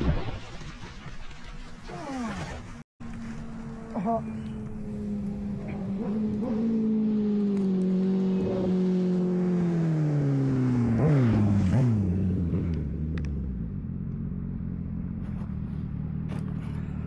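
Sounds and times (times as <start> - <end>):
motorcycle engine running: 3.0 - 17.0.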